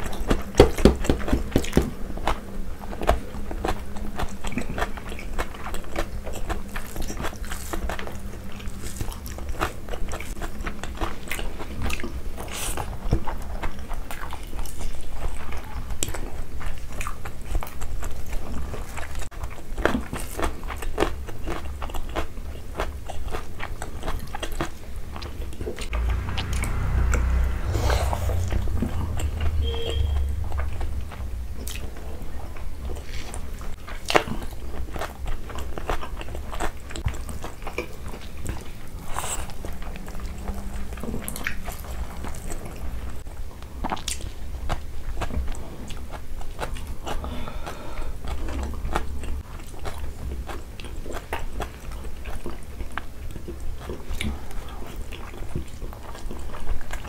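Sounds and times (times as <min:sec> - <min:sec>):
wet chewing with mouth clicks: 0:00.0 - 0:25.9, 0:32.9 - 0:57.0.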